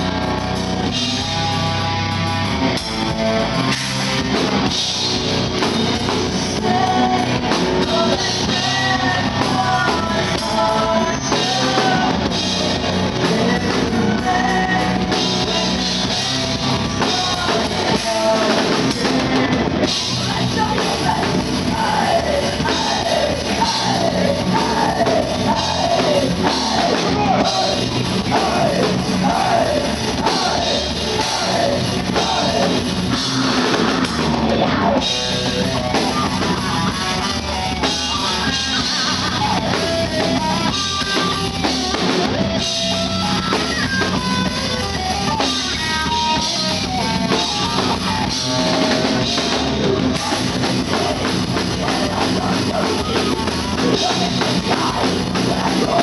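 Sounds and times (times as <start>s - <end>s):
bass guitar: 0.0s - 56.0s
distorted electric guitar: 0.0s - 56.0s
drum kit: 0.0s - 56.0s
person singing: 5.7s - 42.2s, 45.2s - 56.0s.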